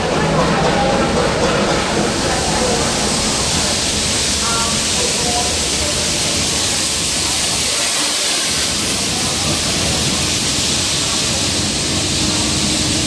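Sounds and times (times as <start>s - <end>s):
train carriages rumbling: 0.0s - 13.0s
steam hissing: 0.3s - 13.0s.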